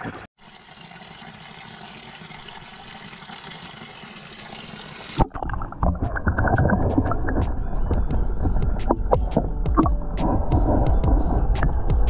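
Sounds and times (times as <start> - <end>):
creek water trickling over rocks: 0.4 - 10.4.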